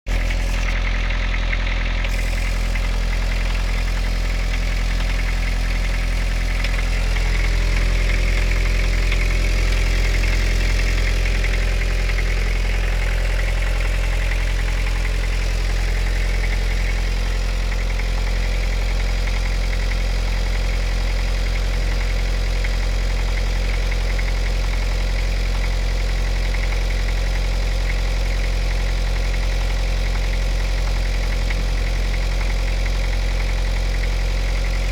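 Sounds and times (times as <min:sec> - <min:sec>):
diesel engine idling with knock: 0:00.1 - 0:34.9.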